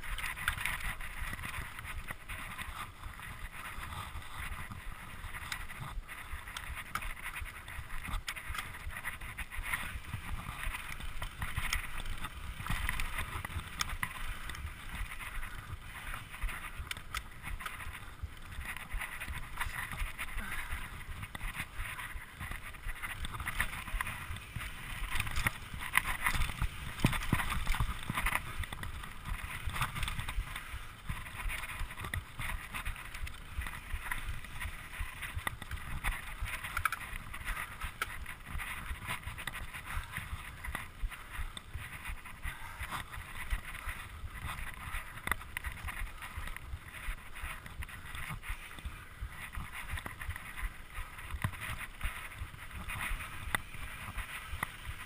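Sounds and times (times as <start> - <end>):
bike rattling and knocking: 0.0 - 55.0.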